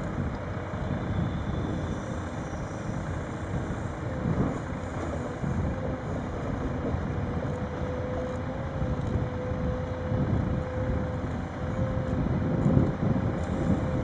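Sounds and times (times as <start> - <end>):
diesel engine running: 0.0 - 14.0
faint steady whine: 0.0 - 14.0.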